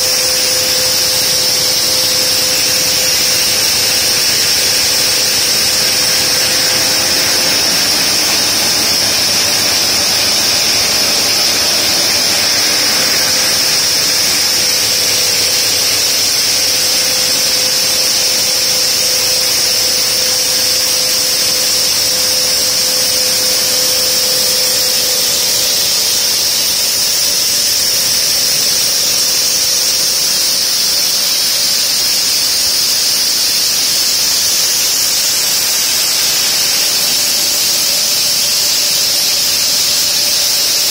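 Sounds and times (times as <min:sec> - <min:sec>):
saw blades cutting stone: 0:00.0 - 0:40.9.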